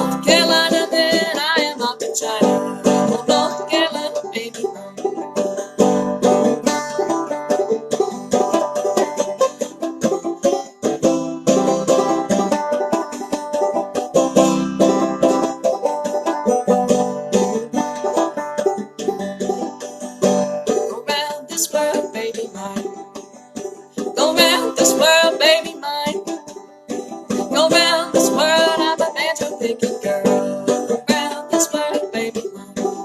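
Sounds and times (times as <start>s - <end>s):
banjo plucked notes: 0.0s - 33.0s.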